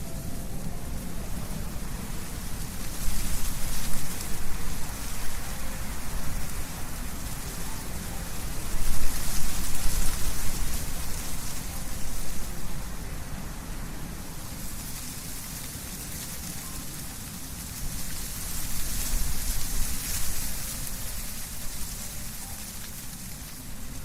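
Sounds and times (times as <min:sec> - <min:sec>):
leaves rustling in wind: 0:00.0 - 0:24.0
low wind rumble: 0:00.0 - 0:24.0.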